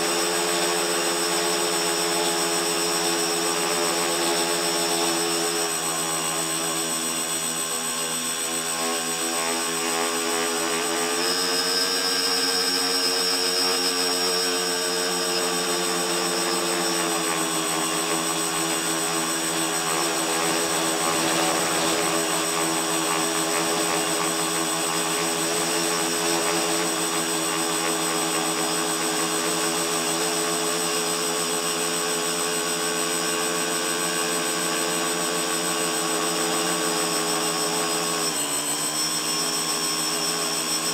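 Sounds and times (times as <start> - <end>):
drone motors and propellers whining: 0.0 - 40.9.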